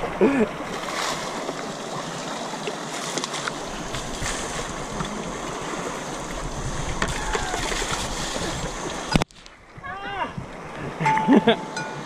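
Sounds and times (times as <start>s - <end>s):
river flowing: 0.0s - 12.0s
water splashing: 0.0s - 12.0s.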